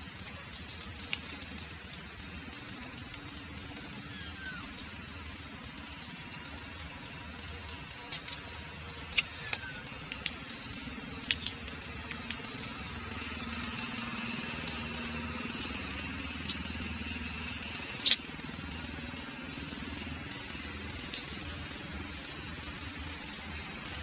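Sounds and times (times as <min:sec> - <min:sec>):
motor engine humming: 0:00.0 - 0:24.0.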